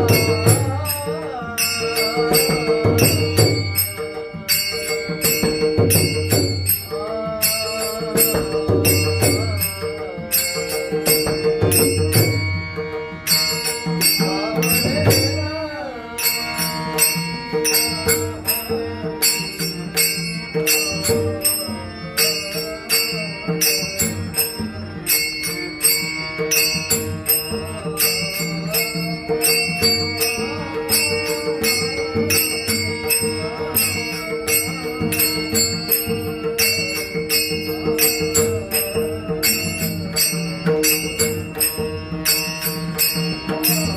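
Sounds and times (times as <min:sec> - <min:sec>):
hand cymbals clashing: 0:00.0 - 0:43.9.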